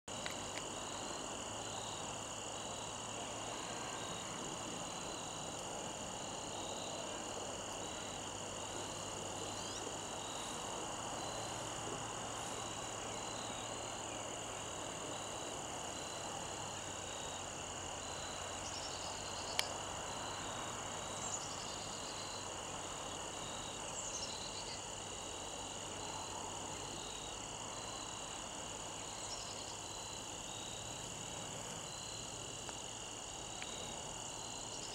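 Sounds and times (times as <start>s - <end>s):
crickets and insects buzzing: 0.1s - 34.9s
insect chirping in regular pulse: 0.1s - 34.9s.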